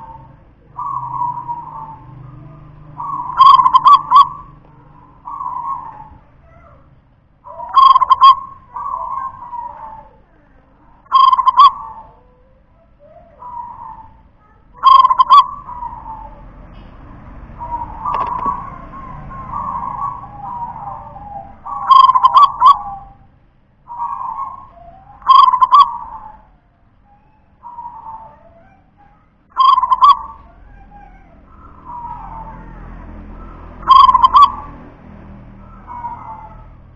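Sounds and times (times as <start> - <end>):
dove cooing: 0.0 - 6.8, 7.4 - 16.7, 17.6 - 23.3, 23.9 - 34.9, 35.5 - 36.9.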